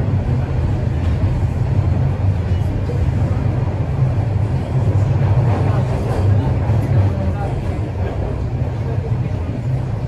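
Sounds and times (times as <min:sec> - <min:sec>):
subway train wheels rumbling: 0:00.0 - 0:10.0.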